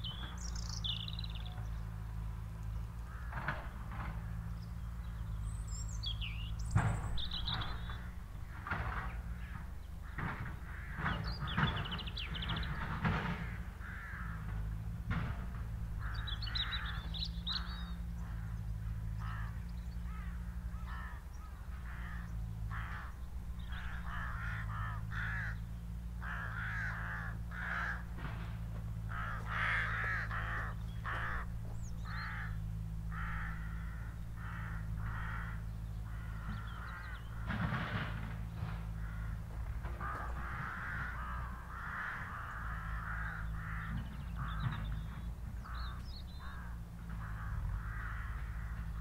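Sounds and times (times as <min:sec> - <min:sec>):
crows cawing: 0:00.0 - 0:49.0
low steady hum: 0:00.0 - 0:49.0.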